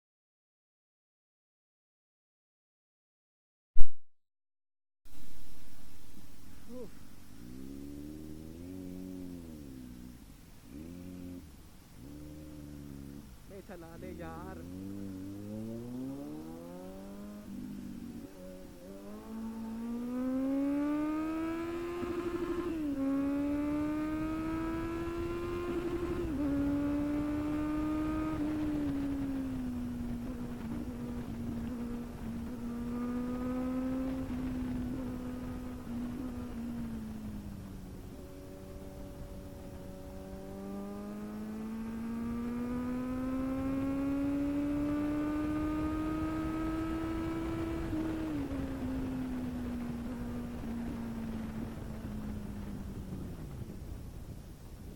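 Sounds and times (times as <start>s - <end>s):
motorcycle engine revving: 5.1s - 54.0s
low wind rush: 5.1s - 54.9s.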